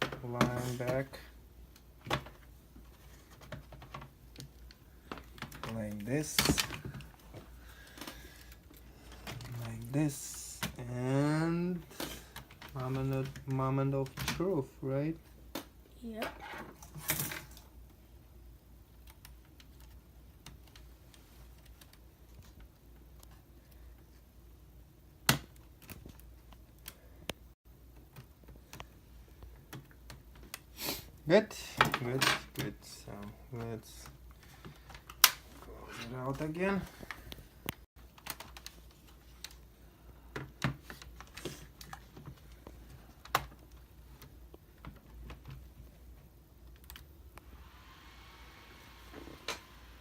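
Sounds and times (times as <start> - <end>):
faint hum with whine: 0.0 - 50.0.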